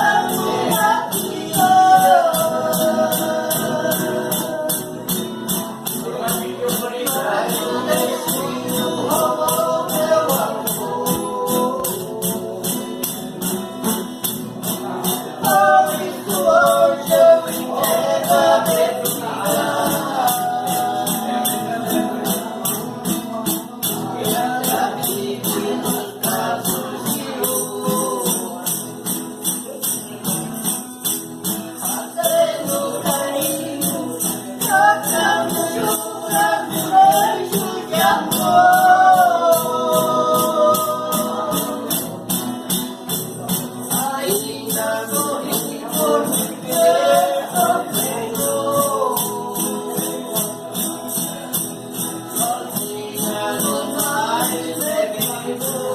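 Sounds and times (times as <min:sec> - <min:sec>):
voices singing: 0:00.0 - 0:30.8, 0:31.4 - 0:55.9
tambourine rhythm: 0:00.0 - 0:55.9.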